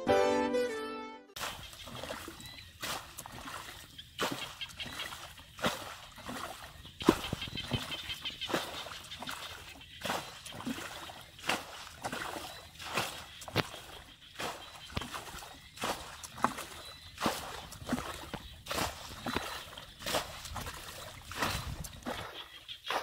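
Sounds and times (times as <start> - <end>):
bare feet splashing through water: 1.4 - 23.0.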